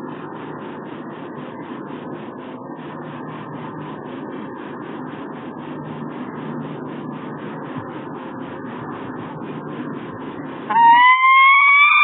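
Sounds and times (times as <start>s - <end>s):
faint regular pulsing: 0.0s - 12.0s.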